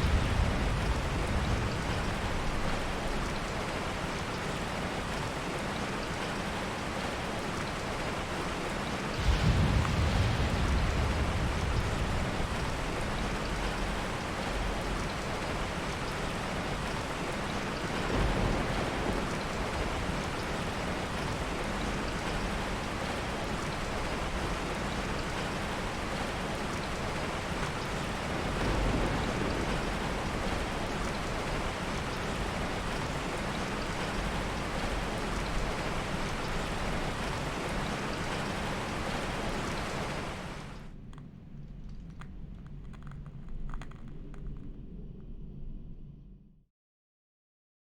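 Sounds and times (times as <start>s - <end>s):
thunder rumbling: 0.0s - 4.1s, 9.1s - 46.4s
heavy rain falling: 0.0s - 40.9s.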